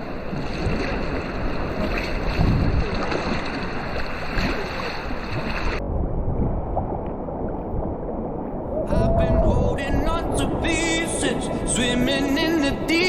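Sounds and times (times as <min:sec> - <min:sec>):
rough sea washing: 0:00.0 - 0:13.0
wind buffeting microphone: 0:00.0 - 0:13.0.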